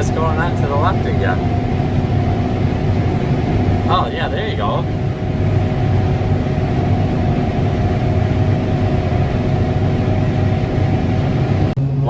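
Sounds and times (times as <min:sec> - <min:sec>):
diesel engine low drone: 0:00.0 - 0:12.0
faint higher hum: 0:00.0 - 0:12.0.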